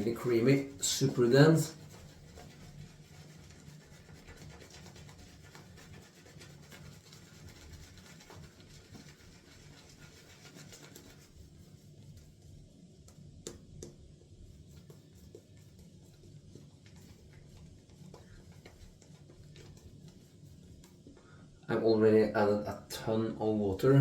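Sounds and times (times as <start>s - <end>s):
shaving brush scratching lather: 0.0s - 13.7s, 14.4s - 21.1s.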